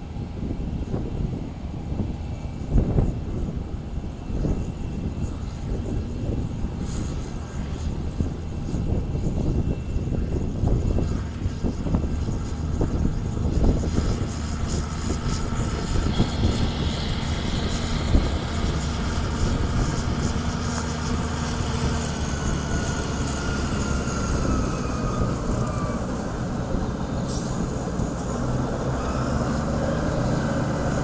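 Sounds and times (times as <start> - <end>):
distant aircraft engine rumble: 0.0 - 31.0
gusty wind on microphone: 0.0 - 31.0.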